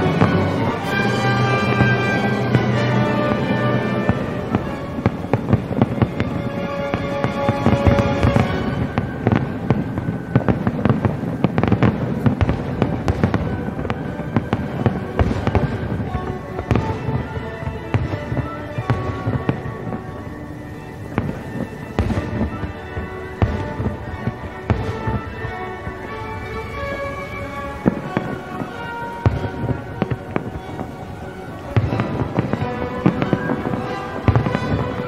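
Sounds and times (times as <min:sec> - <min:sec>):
firework bangs and crackles: 0:00.0 - 0:35.0
music with held tones: 0:00.0 - 0:35.0.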